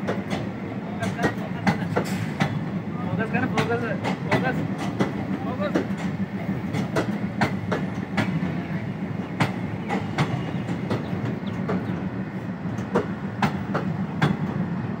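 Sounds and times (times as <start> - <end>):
low rumble of train: 0.0 - 15.0
train wheels clacking on track: 0.0 - 15.0.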